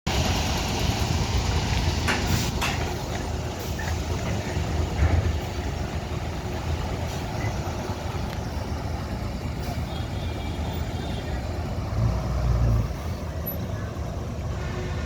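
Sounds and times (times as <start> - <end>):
bus diesel engine rumbling: 0.1 - 15.0.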